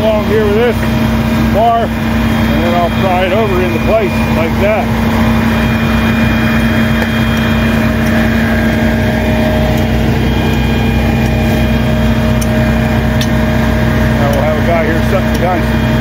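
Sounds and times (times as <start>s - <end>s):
motor running steadily: 0.0s - 16.0s.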